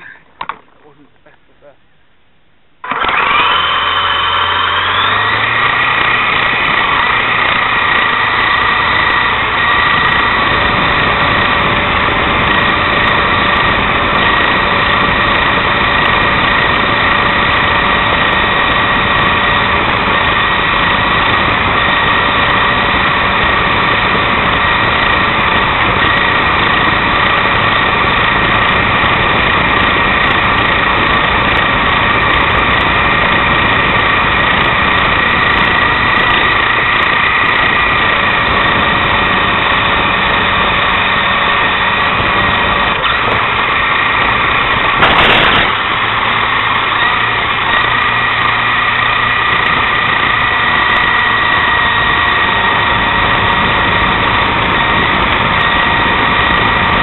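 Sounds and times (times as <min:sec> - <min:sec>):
toy helicopter motors whining: 0:02.8 - 0:57.0.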